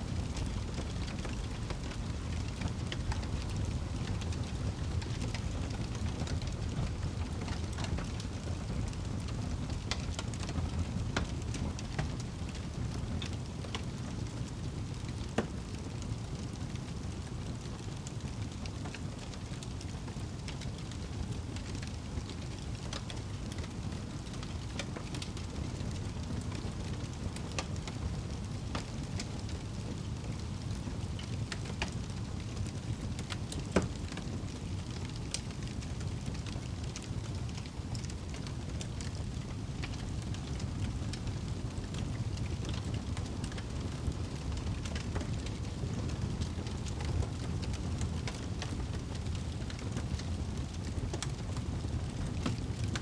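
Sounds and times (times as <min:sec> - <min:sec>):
wood fire burning: 0:00.0 - 0:53.0.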